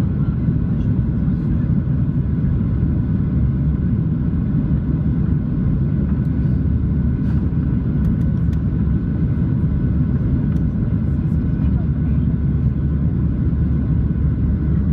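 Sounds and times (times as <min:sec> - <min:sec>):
aircraft cabin drone: 0:00.0 - 0:14.9.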